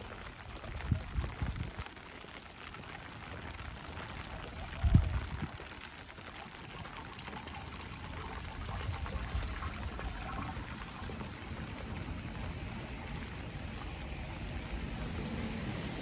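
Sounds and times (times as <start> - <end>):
rain falling on ground: 0.0 - 16.0
running pouring water: 0.0 - 16.0.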